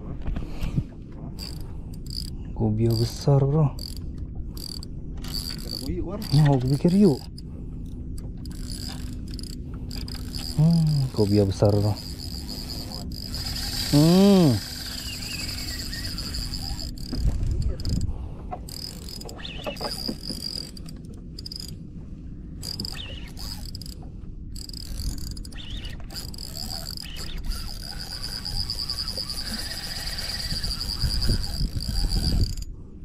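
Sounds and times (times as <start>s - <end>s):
crickets chirring: 1.4s - 21.8s, 22.6s - 32.7s.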